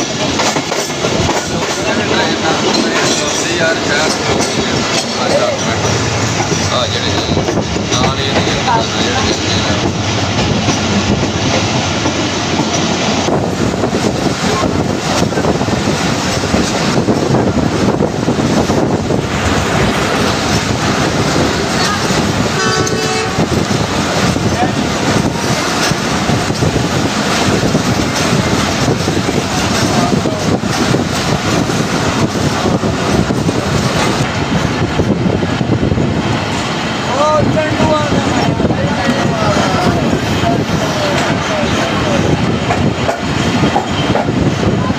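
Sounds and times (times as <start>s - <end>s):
train wheels clattering over rails: 0.0s - 44.9s
wind buffeting microphone: 0.0s - 44.9s.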